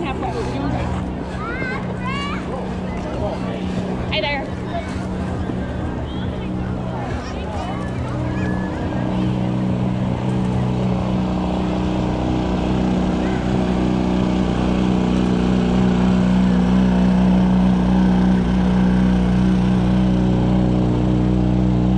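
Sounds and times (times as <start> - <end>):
vehicle engine idling: 0.0 - 21.9.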